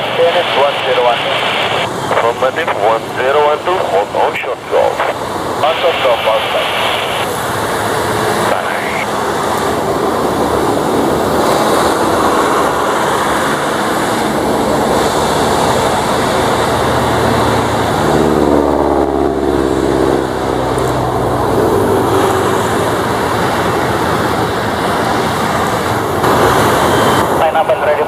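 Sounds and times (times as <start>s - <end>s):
aircraft passing close: 0.0s - 28.0s
turboprop engines droning: 0.0s - 28.0s.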